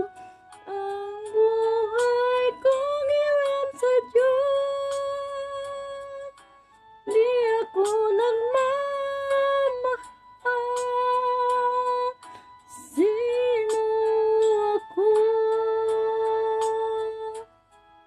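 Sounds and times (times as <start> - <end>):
woman singing slow song: 0.0 - 6.4, 7.0 - 17.4.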